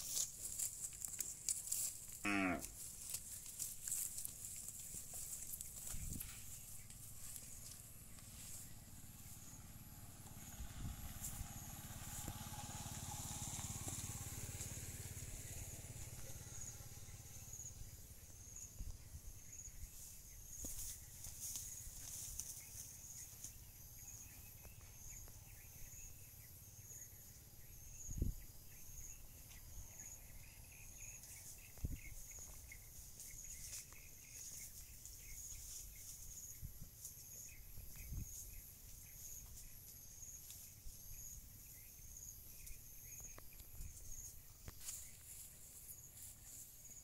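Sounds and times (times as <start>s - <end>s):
insects chirping: 0.0s - 47.0s.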